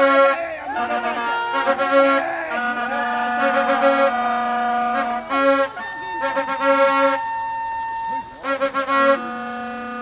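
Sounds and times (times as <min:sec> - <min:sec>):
reedy melody of long held notes: 0:00.0 - 0:10.0.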